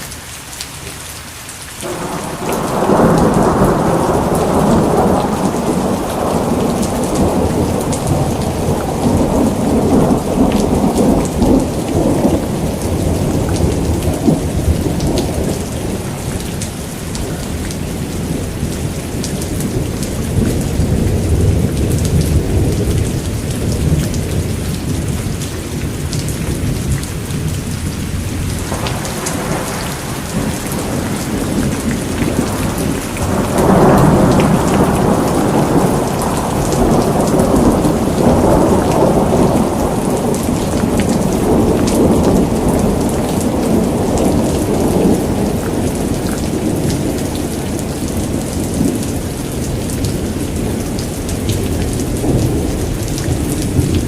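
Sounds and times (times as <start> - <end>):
heavy rain: 0.0 - 54.0
rolling thunder: 1.8 - 54.0.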